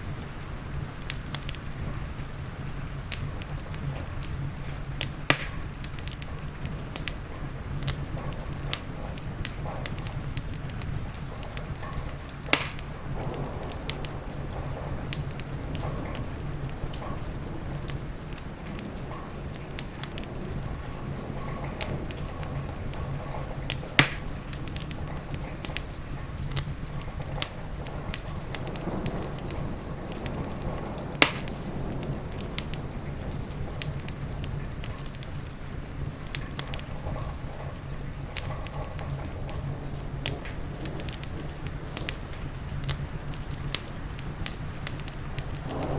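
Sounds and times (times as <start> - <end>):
rain: 0.0 - 45.9
wood fire crackling: 0.0 - 45.9.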